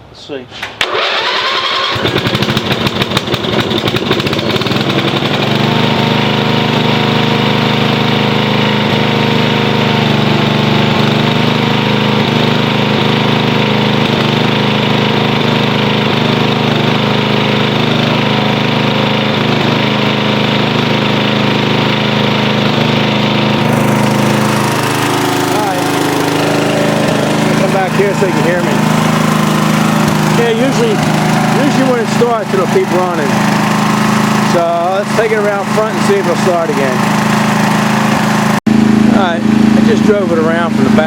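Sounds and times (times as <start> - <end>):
lawn tractor engine starting: 0.5 - 41.0.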